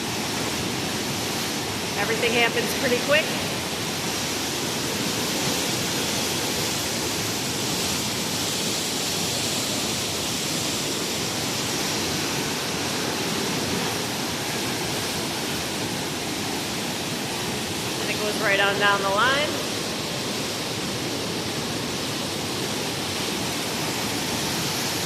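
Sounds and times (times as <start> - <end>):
water rushing through canal lock: 0.0 - 25.0.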